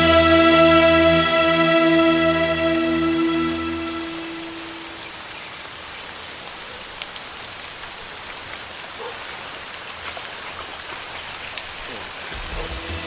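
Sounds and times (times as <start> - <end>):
rain on umbrellas: 0.0 - 13.0.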